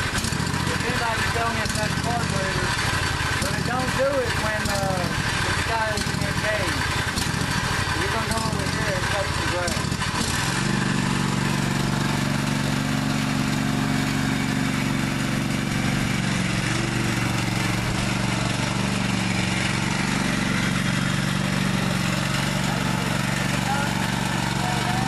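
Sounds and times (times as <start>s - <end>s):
lawn mower engine running: 0.0s - 25.0s.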